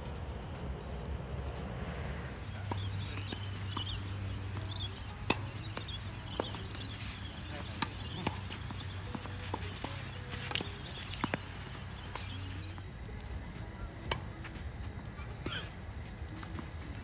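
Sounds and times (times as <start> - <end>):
tennis balls struck and bouncing: 2.4 - 17.0.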